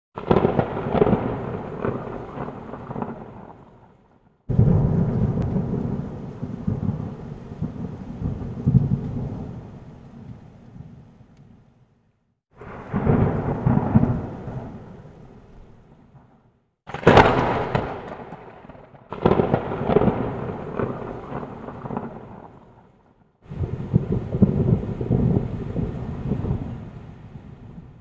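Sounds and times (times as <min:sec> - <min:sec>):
rolling thunder: 0:00.2 - 0:03.9, 0:04.5 - 0:10.0, 0:12.5 - 0:22.9, 0:23.5 - 0:28.0.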